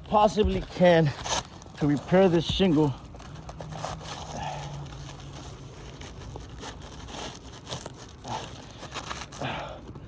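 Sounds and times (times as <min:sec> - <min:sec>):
roof shingles scraping and crackling: 0:00.1 - 0:09.6.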